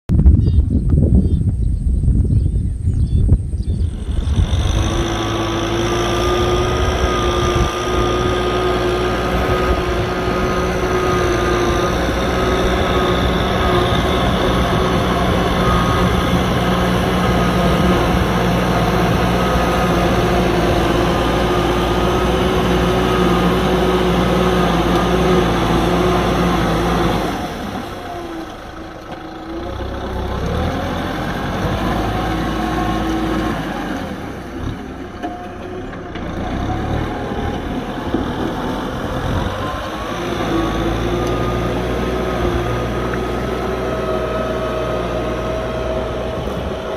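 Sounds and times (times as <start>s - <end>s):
tractor diesel engine running: 2.4s - 46.9s.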